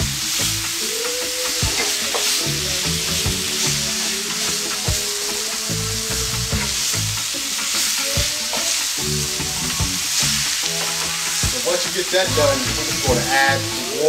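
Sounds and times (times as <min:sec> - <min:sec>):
chicken sizzling in frying pan: 0:00.0 - 0:14.0
spatula scraping pan: 0:00.3 - 0:14.0.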